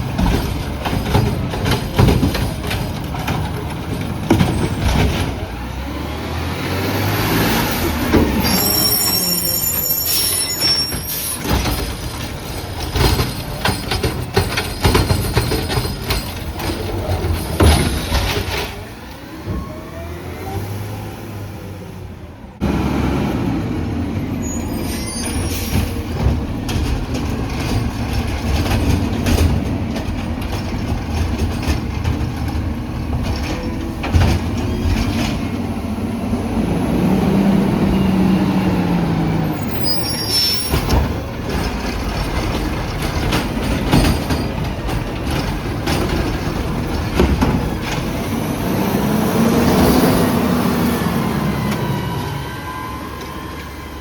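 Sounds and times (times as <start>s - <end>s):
carts banging and knocking: 0.0s - 19.9s, 23.6s - 52.1s
garbage truck engine revving: 0.0s - 53.2s.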